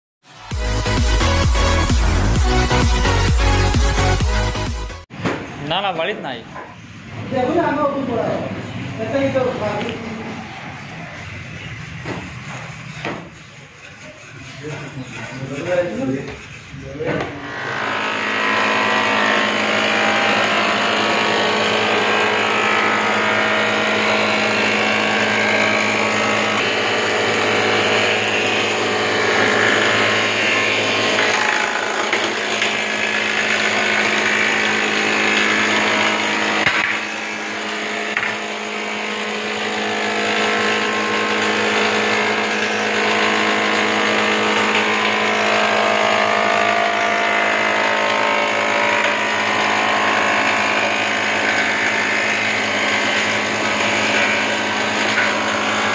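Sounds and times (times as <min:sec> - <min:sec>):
wood planer humming: 0:00.3 - 0:05.1, 0:09.6 - 0:55.9
planer cutting wood: 0:00.4 - 0:04.8, 0:10.8 - 0:55.9.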